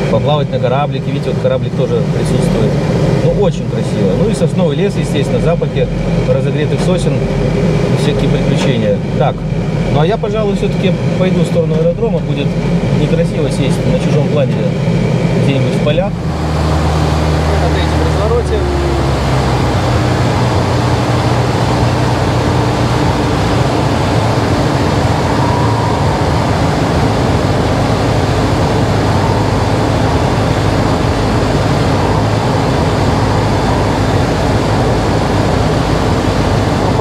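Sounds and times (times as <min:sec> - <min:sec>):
aircraft engine and propeller drone: 0:00.0 - 0:37.0.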